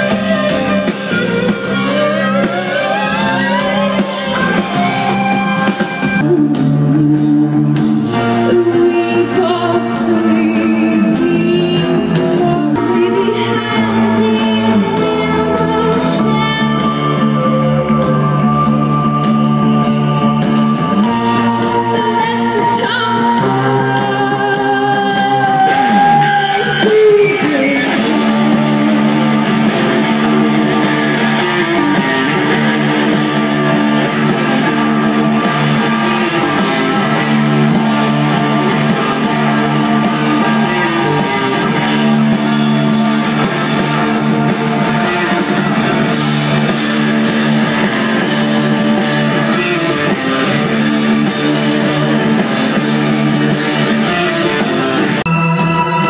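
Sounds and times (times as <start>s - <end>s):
live rock band playing loudly: 0.0s - 56.0s
person singing: 0.0s - 56.0s.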